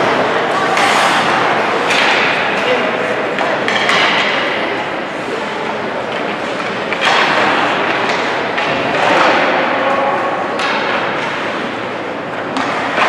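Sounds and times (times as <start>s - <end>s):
hockey stick and puck thuds: 0.0s - 4.6s, 6.1s - 9.8s, 10.5s - 13.0s
spectators' voices: 0.0s - 13.0s.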